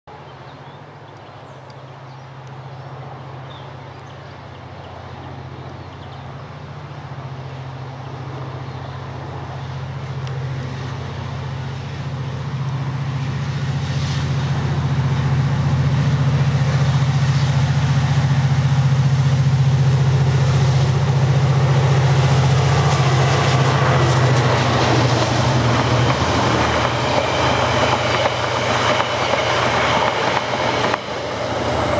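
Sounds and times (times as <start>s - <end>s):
diesel locomotive engine drone: 0.1s - 31.9s
carriages rumbling and clacking: 3.1s - 31.9s.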